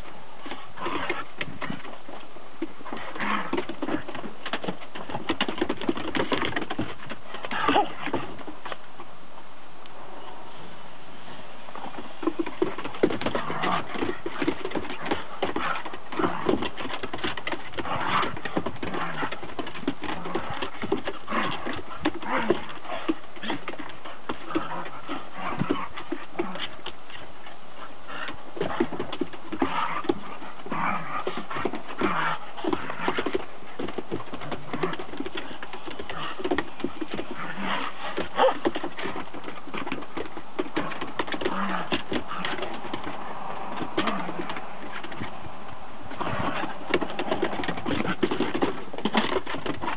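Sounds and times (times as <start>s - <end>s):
dog claws clicking on wooden deck: 0.4s - 8.9s, 11.9s - 49.9s.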